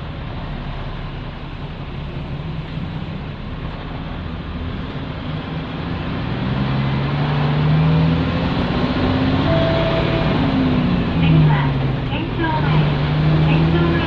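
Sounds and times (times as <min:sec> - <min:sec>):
bus diesel engine accelerating: 0:00.0 - 0:14.0.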